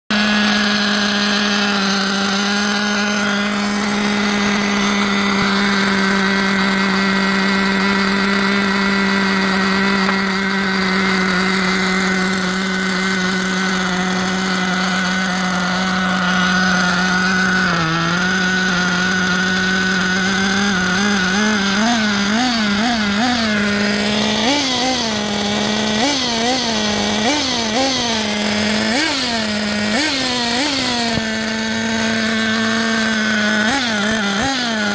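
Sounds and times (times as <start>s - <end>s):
model engine idling buzzy: 0.1s - 34.9s.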